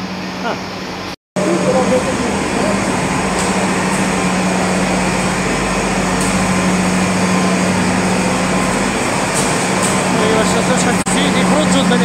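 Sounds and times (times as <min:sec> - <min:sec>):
mill machinery humming: 0:00.0 - 0:12.0.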